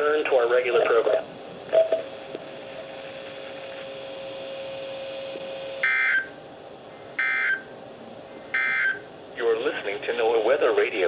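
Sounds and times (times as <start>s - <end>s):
broadcast background hiss: 0.0s - 11.0s
faint steady hum: 0.0s - 11.0s.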